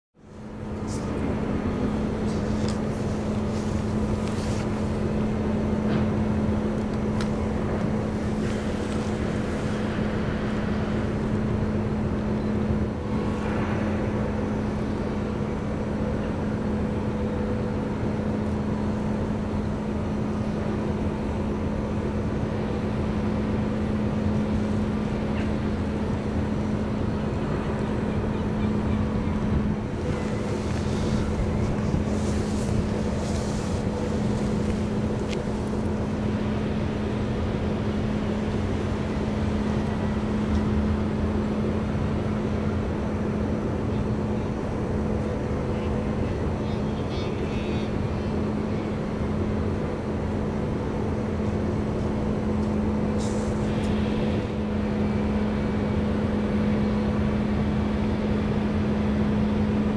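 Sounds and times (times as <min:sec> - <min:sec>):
ship engines droning: 0:00.2 - 0:59.9.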